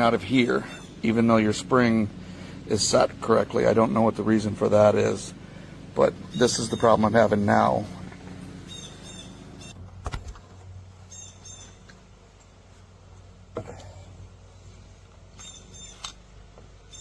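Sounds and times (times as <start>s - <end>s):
birds chirping: 0.0s - 9.8s, 11.0s - 12.3s, 13.6s - 17.0s.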